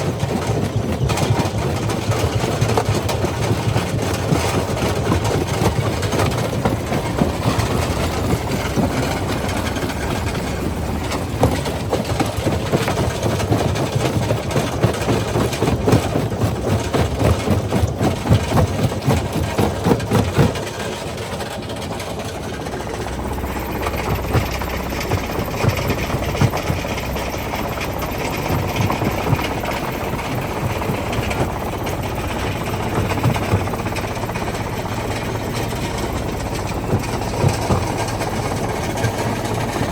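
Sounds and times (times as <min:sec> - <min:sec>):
crusher machine drone: 0:00.0 - 0:15.9, 0:19.2 - 0:39.9.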